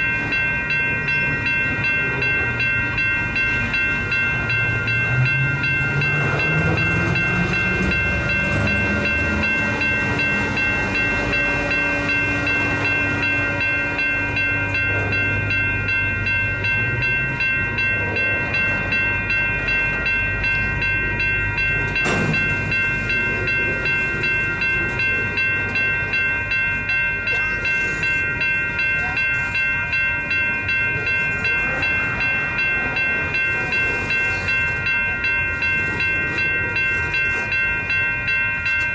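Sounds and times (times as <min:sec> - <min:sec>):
crossing warning bell ringing: 0:00.0 - 0:38.9
freight train rumbling past: 0:00.0 - 0:38.9.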